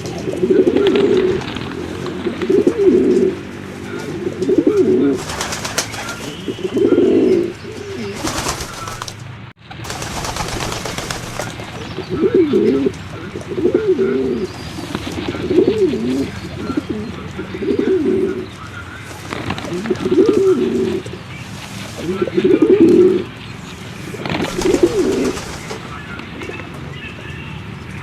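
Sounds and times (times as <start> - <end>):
pigeons cooing: 0.0 - 27.4.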